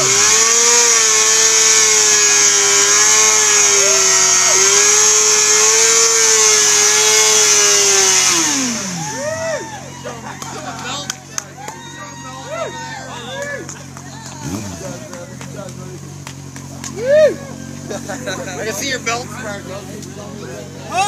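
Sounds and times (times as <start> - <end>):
motorcycle engines revving high: 0.0 - 21.0.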